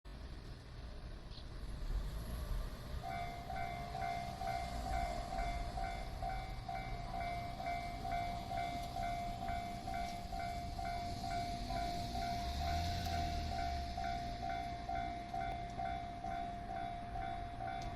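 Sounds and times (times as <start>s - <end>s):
level-crossing warning bell: 3.0s - 17.9s.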